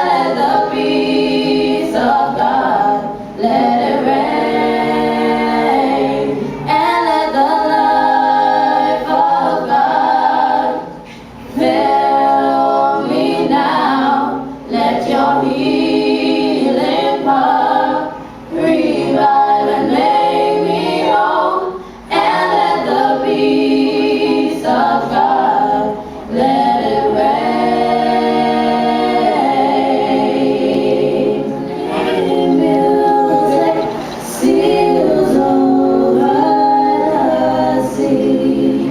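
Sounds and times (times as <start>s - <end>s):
a cappella group singing: 0.0s - 38.9s.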